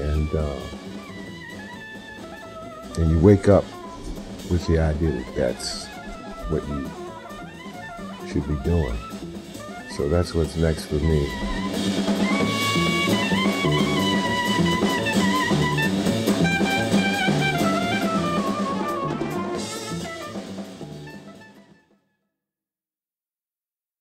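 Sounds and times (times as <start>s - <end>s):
jazz with drum kit and melody: 0.0s - 21.9s.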